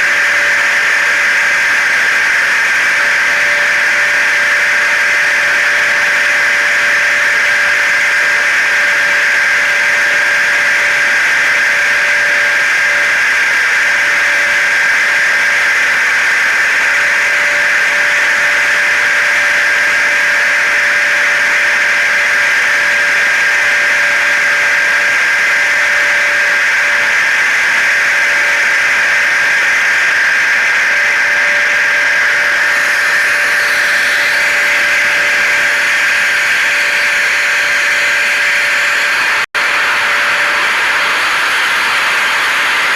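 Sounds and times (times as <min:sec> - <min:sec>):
hair dryer motor whine: 0:00.0 - 0:42.9
vacuum cleaner: 0:00.0 - 0:42.9.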